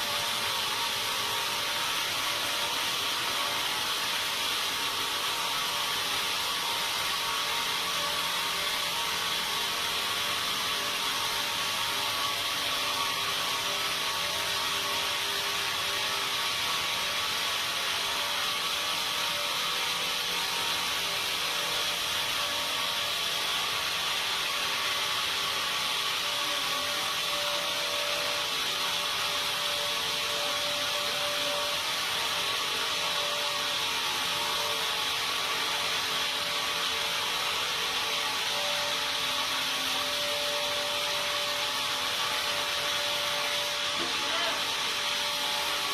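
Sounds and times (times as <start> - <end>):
sawmill saw running: 0.0 - 45.9.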